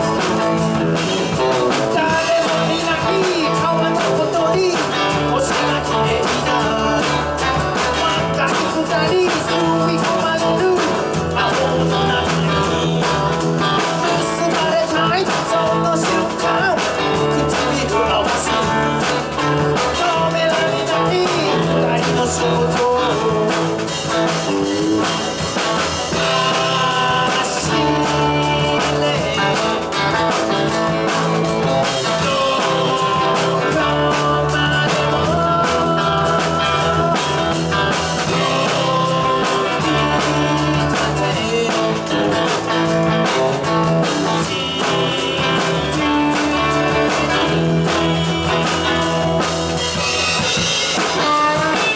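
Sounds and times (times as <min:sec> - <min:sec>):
electric guitar: 0:00.0 - 0:51.9
person singing: 0:00.0 - 0:51.9
rock band playing: 0:00.0 - 0:51.9
steady drum beat: 0:00.0 - 0:51.9.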